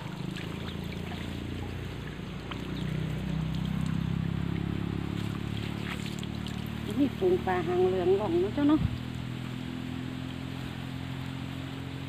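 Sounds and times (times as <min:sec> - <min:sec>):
low motor hum: 0:00.0 - 0:12.0
water trickling and dripping: 0:00.0 - 0:12.0.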